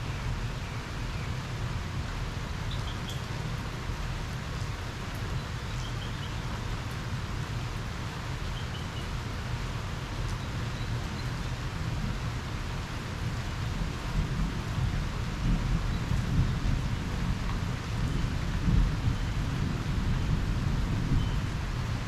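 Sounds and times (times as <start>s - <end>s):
steady rain falling: 0.0s - 22.0s
wind rumble on microphone: 0.0s - 22.0s.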